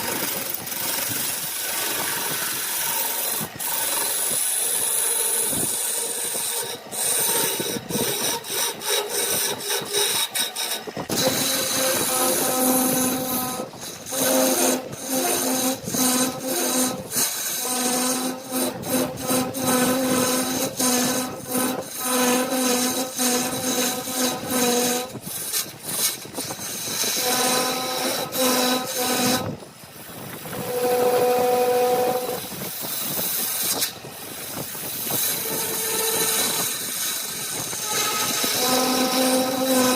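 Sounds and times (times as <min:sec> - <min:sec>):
turning tool scraping wood: 0:00.0 - 0:39.9
wood lathe humming: 0:00.0 - 0:39.9.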